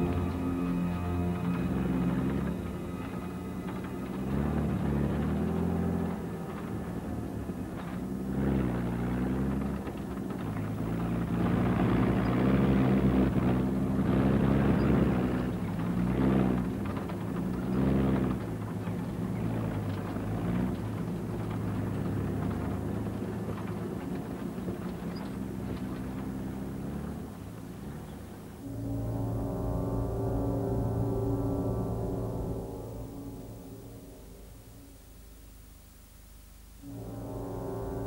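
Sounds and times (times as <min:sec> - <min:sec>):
truck and bus engines running: 0:00.0 - 0:38.0.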